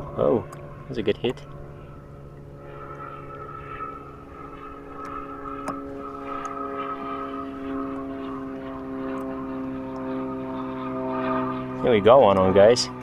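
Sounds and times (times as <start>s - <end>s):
distant engine drone: 0.0s - 13.0s.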